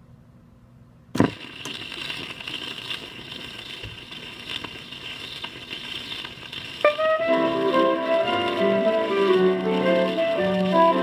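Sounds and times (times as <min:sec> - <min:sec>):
record surface hiss and crackle: 0:00.0 - 0:11.0
record clicks: 0:01.2 - 0:11.0.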